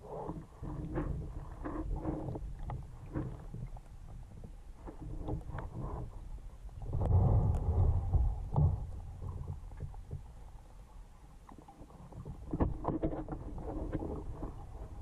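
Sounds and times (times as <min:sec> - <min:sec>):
muffled underwater rushing: 0:00.0 - 0:15.0.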